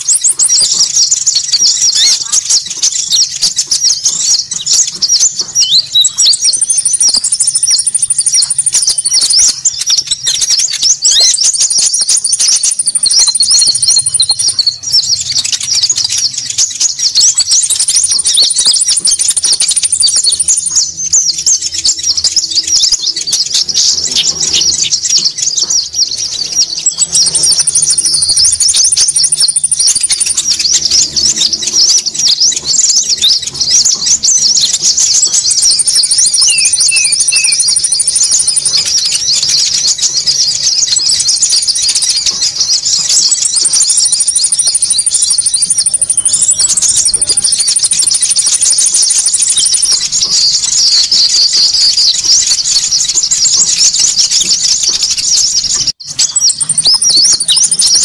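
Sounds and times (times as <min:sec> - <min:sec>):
birds chattering: 0:00.0 - 0:58.0
high bird trill: 0:00.0 - 0:58.0.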